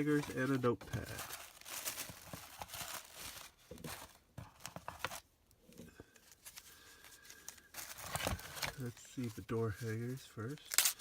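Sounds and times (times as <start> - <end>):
packaging crinkling and rustling: 0.0 - 5.3, 6.2 - 11.0.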